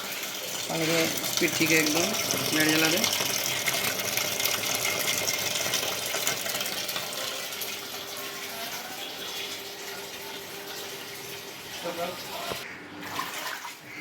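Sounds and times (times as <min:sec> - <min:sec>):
washing machine running: 0:00.0 - 0:13.7.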